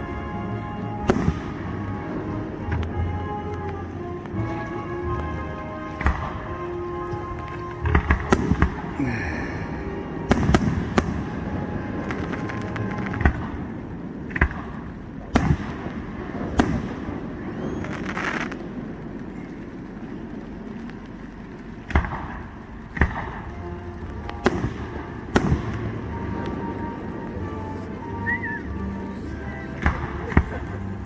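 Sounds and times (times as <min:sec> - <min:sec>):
fireworks bangs: 0:00.0 - 0:31.0
fireworks crackling burst: 0:00.0 - 0:31.0.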